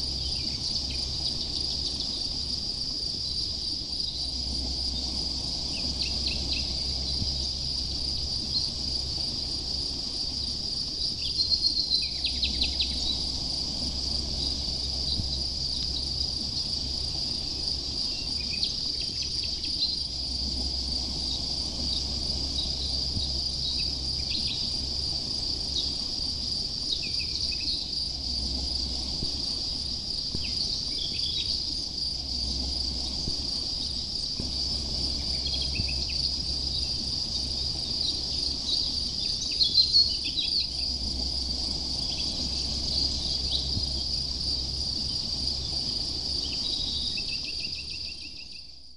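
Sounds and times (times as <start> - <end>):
crickets chirring: 0.0 - 48.9
low steady rumble: 0.0 - 48.9.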